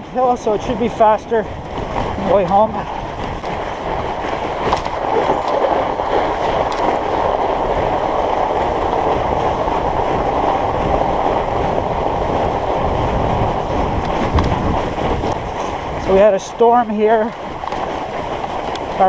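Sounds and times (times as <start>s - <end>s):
bike tyres rolling on snow: 0.0s - 19.0s.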